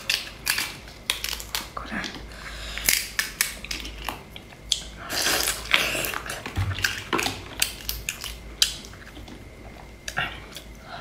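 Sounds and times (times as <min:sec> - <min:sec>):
lobster shell cracking: 0:00.0 - 0:02.2, 0:02.8 - 0:10.7.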